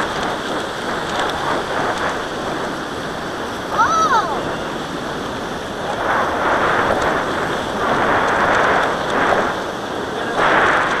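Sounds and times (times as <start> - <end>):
surf washing up beach: 0.0 - 11.0
wind: 0.0 - 11.0.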